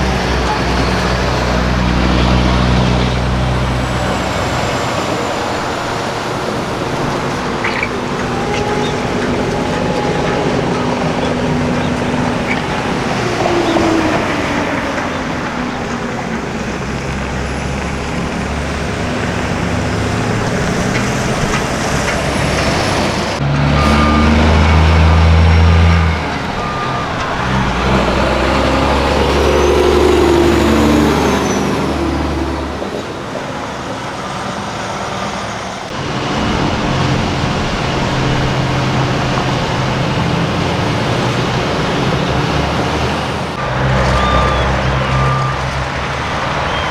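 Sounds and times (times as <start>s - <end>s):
diesel trucks driving past: 0.0s - 46.9s.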